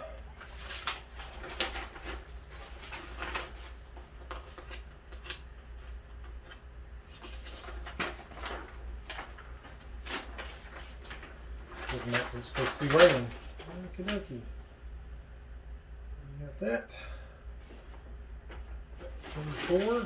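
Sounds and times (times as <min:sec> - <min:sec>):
hands handling parts and paper: 0:00.4 - 0:14.2, 0:17.7 - 0:20.0.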